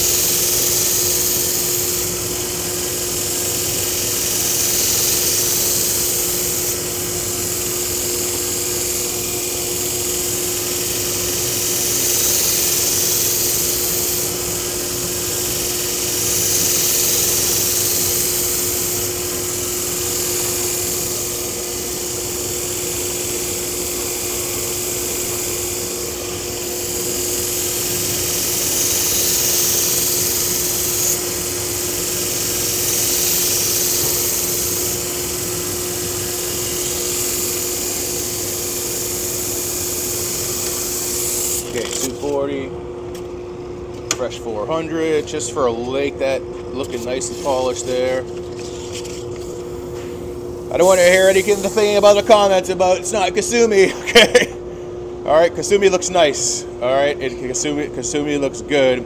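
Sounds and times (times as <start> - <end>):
blade grinding hiss: 0.0 - 42.5, 46.8 - 54.5.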